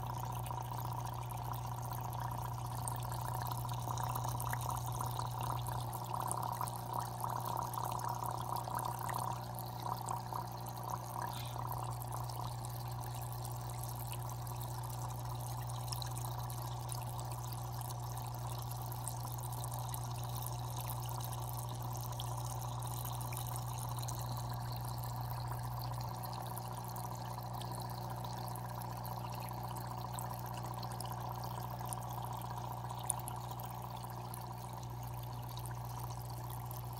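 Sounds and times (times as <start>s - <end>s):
aquarium water trickling: 0.0s - 36.9s.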